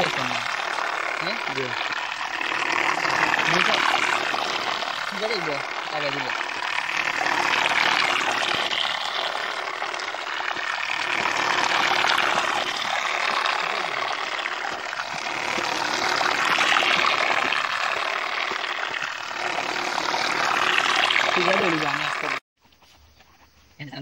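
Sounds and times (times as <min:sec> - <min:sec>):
propeller churning water: 0:00.0 - 0:22.4.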